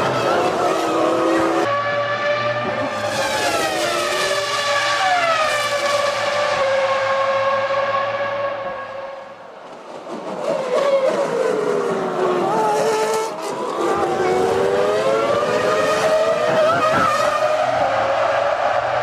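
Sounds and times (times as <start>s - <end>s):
racing car engines at high revs: 0.0s - 9.1s, 10.6s - 19.0s.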